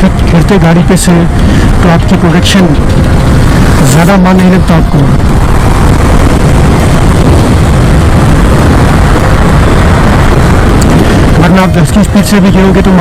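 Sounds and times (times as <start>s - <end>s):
motorcycle wind and road noise: 0.0s - 13.0s
wind buffeting microphone: 0.0s - 13.0s.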